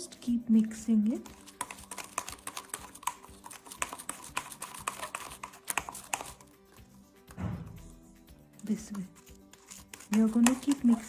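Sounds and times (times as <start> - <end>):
spatula stirring thick paint: 0.2 - 11.0.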